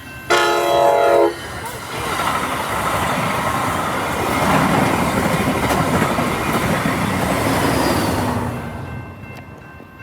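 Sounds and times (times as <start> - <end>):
rail clicks: 0.0 - 10.0
train wheels on rails: 0.0 - 10.0.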